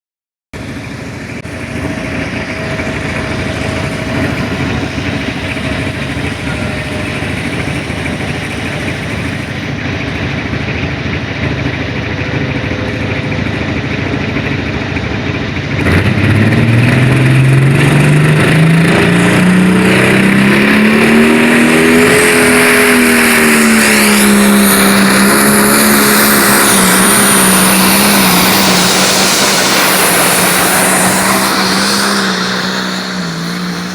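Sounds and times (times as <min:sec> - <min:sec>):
diesel engine revving under load: 0:00.6 - 0:33.9.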